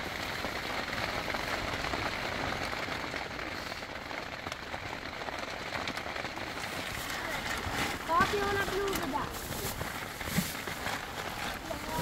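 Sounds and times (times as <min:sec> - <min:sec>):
rain on tent fabric: 0:00.0 - 0:12.0.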